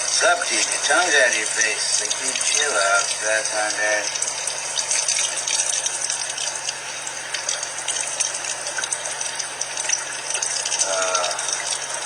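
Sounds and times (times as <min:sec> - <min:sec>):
shower water running: 0:00.0 - 0:12.0.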